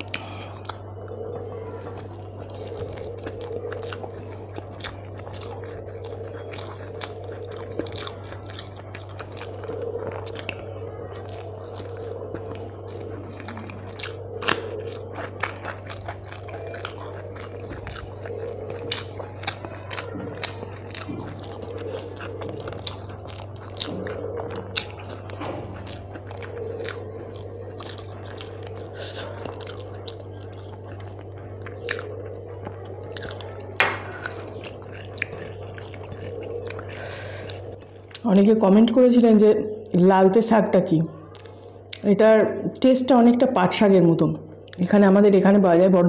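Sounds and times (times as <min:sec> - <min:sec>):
wet mouth clicks: 0:00.0 - 0:38.3, 0:41.2 - 0:42.1, 0:44.5 - 0:44.9
person chewing crunchy food: 0:00.0 - 0:39.1, 0:39.7 - 0:40.6, 0:41.2 - 0:42.1, 0:44.4 - 0:45.0
steady low hum: 0:00.0 - 0:46.0.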